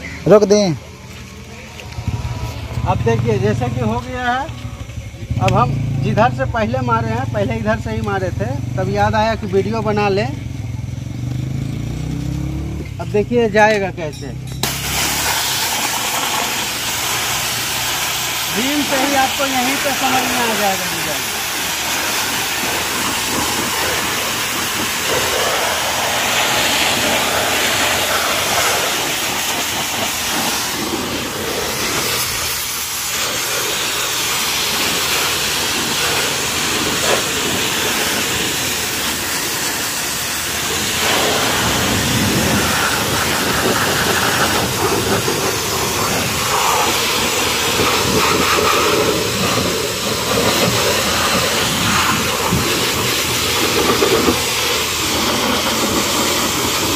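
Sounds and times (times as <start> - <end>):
pressure washer water spraying: 0.0 - 10.3, 13.1 - 56.9.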